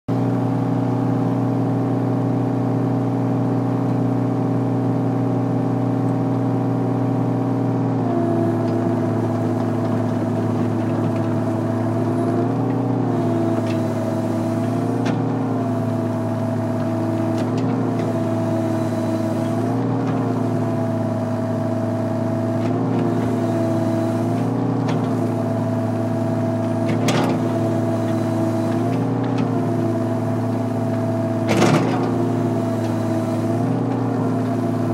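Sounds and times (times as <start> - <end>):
excavator diesel engine and hydraulics: 0.1 - 34.9.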